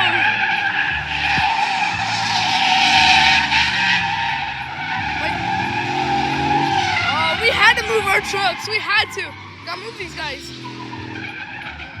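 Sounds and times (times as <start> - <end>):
engine revving: 0.0 - 12.0
tyres squealing: 0.0 - 12.0.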